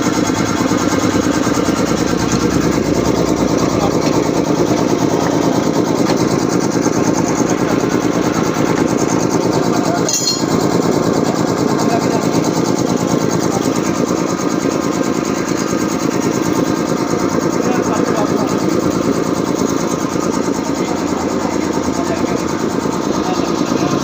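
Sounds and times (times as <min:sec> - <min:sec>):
air compressor running: 0:00.0 - 0:24.0.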